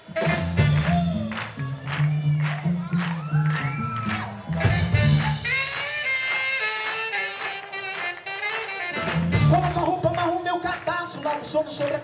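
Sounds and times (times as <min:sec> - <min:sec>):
bass line: 0:00.0 - 0:10.9
live band instrumental: 0:00.0 - 0:12.0
hand claps: 0:00.8 - 0:04.3, 0:05.2 - 0:12.0.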